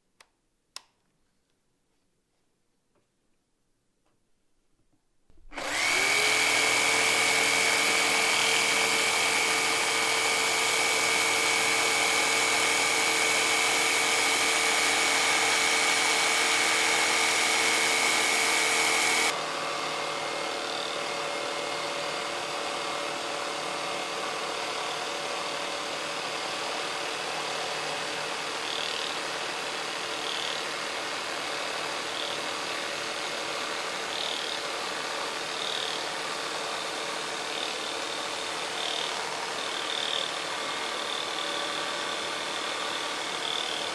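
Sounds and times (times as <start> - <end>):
jigsaw cutting wood: 5.4 - 43.9.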